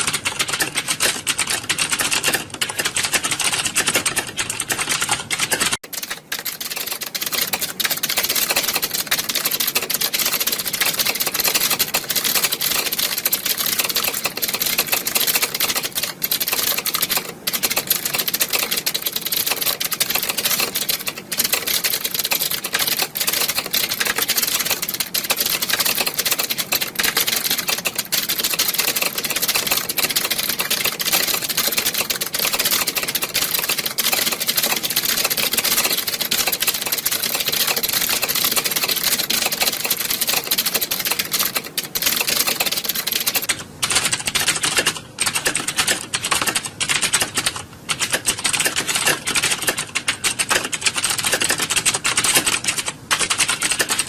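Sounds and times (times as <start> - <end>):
many keyboards typing: 0.0 - 54.0.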